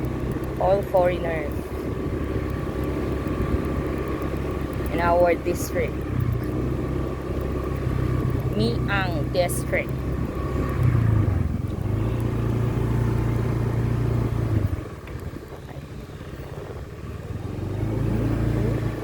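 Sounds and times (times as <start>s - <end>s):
motorbike engine humming: 0.0s - 19.0s.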